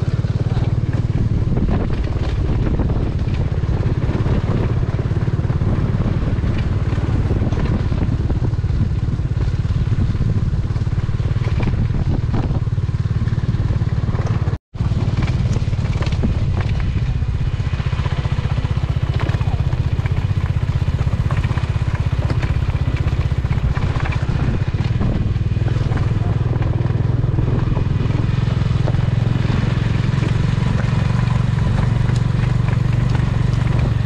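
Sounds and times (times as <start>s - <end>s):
motorcycle engine running: 0.0s - 34.0s
road and wind noise: 0.0s - 34.0s.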